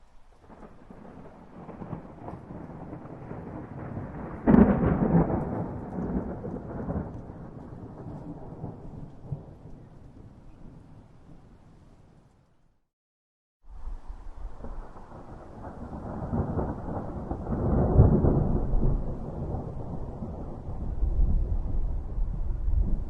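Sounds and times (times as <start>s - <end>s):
thunder rumbling: 0.0s - 12.3s, 13.8s - 23.0s
rain: 0.0s - 12.6s, 13.7s - 23.0s.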